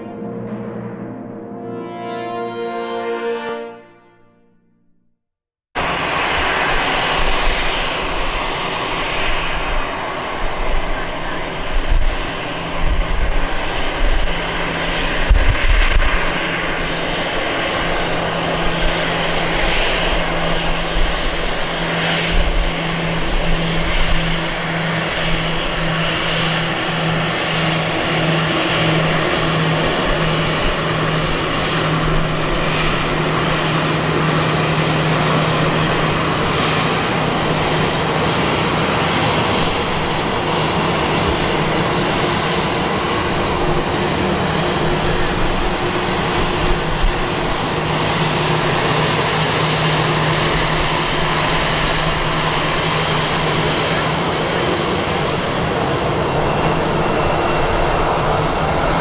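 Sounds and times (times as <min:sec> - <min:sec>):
jet engines at low power: 0:05.8 - 0:59.0.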